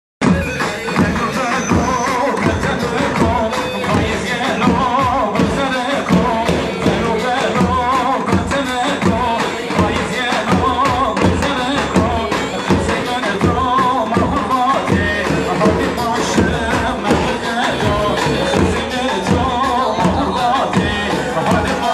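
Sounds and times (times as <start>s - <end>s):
repeating drum beat: 0.2s - 21.9s.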